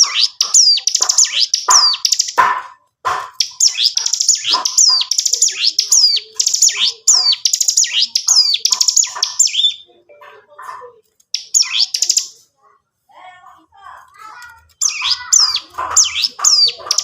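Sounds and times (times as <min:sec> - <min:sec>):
prinia singing buzzy trills: 0:00.0 - 0:02.4, 0:03.3 - 0:12.4, 0:14.8 - 0:17.0.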